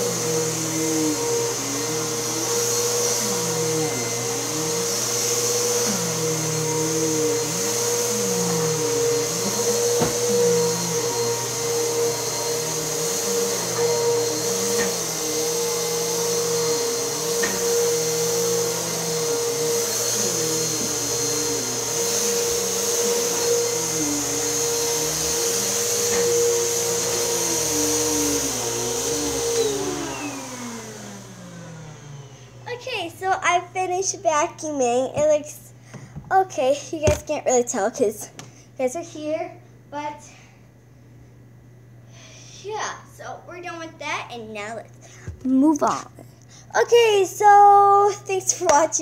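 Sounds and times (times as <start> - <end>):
vacuum cleaner whining: 0.0 - 38.8, 41.8 - 49.0.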